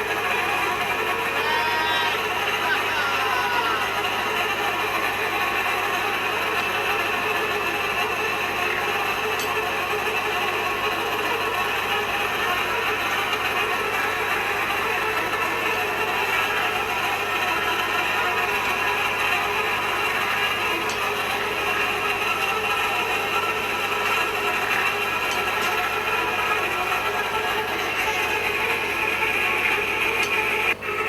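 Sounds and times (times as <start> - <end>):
machine running with low hum: 0.0 - 31.0.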